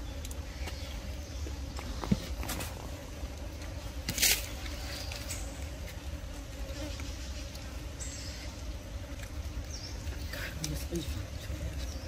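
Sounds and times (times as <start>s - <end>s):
faint insect buzz: 0.0s - 12.0s.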